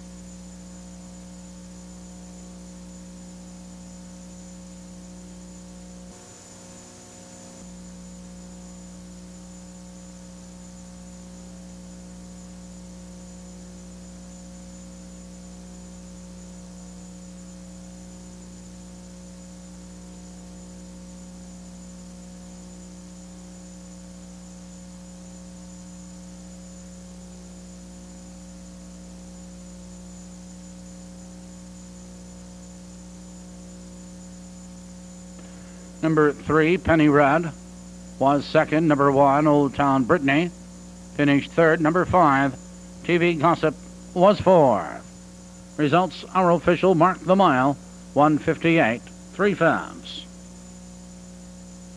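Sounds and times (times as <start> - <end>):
electrical mains hum: 0.0 - 51.9.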